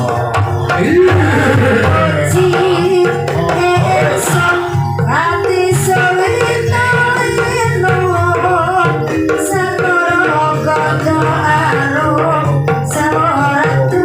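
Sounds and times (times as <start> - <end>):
gamelan music: 0.0 - 14.0
hand drum rhythm: 0.0 - 14.0
person singing wavering melody: 0.0 - 14.0.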